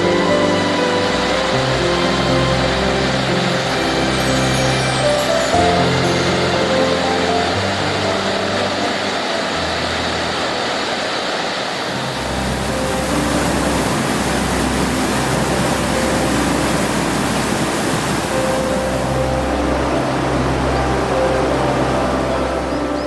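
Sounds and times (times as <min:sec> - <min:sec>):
soft background music: 0:00.0 - 0:23.0
waterfall roaring: 0:00.0 - 0:23.0.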